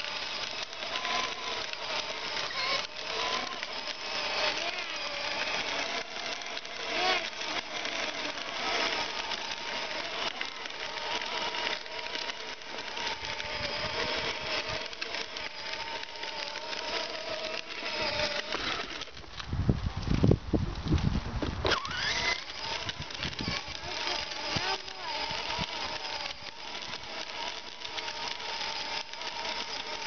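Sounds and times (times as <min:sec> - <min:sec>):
electric motor whining: 0:00.0 - 0:30.0
plastic wheels rolling on asphalt: 0:00.0 - 0:30.0.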